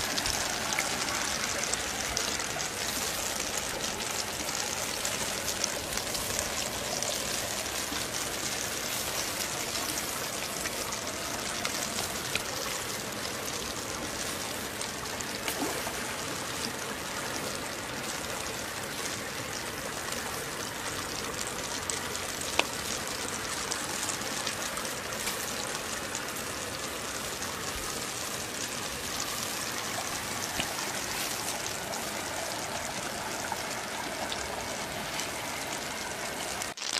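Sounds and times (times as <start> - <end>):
creek water rushing: 0.0 - 36.8.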